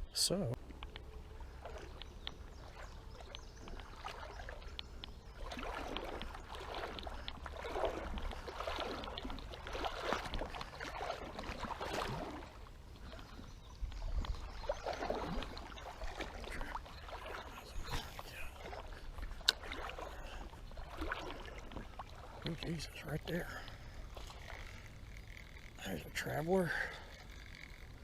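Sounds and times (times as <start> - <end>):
creek water splashing: 0.1 - 28.0.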